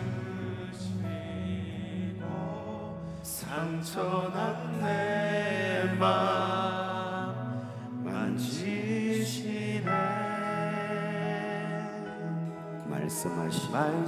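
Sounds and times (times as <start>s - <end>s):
person singing worship song: 0.0s - 14.0s.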